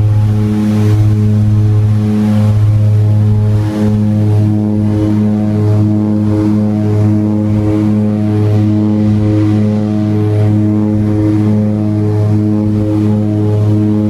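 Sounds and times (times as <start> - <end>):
propeller engine droning: 0.0 - 14.0.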